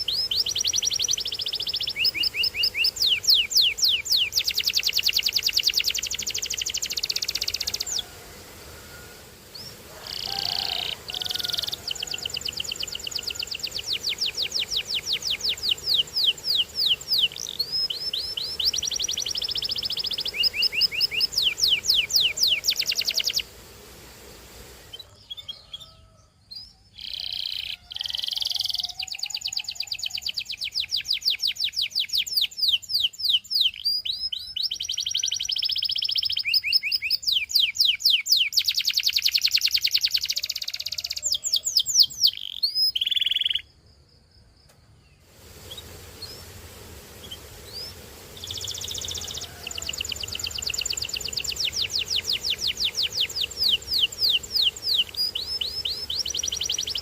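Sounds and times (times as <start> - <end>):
canary singing trills: 0.0 - 8.1, 8.8 - 23.5, 24.8 - 43.8, 47.2 - 57.0.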